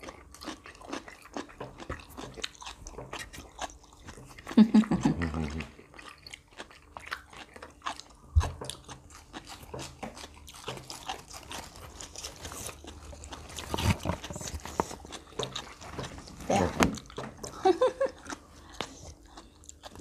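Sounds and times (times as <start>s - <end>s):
chewing crunchy vegetables: 0.0s - 20.0s.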